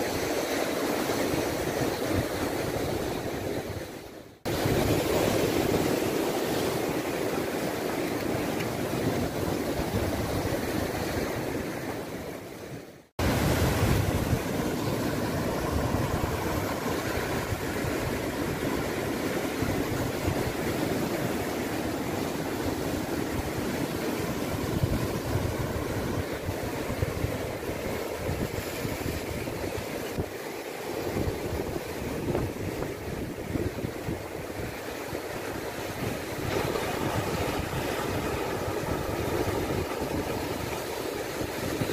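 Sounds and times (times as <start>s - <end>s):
surf breaking over rocks: 0.0s - 41.9s
wind noise on microphone: 0.0s - 41.9s.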